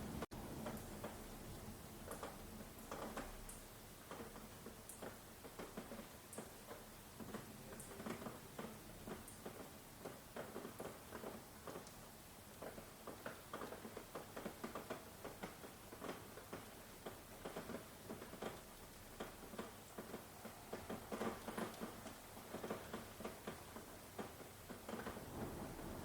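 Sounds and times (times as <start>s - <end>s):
rain drops pattering: 0.0s - 26.0s.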